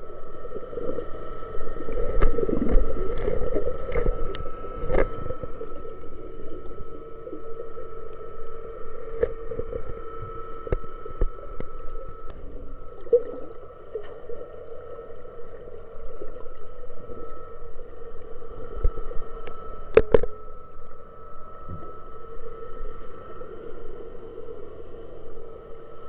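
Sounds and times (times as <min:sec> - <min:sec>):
underwater machinery hum: 0:00.0 - 0:26.0.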